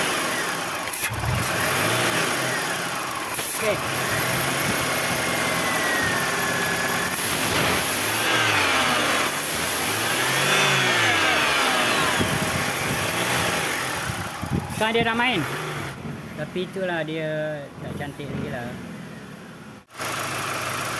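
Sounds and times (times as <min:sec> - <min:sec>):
car engine revving: 0:00.0 - 0:20.9.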